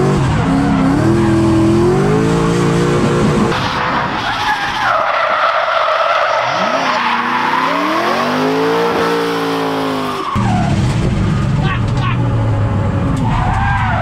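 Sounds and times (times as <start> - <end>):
car engine revving: 0.0 - 4.2, 5.7 - 14.0.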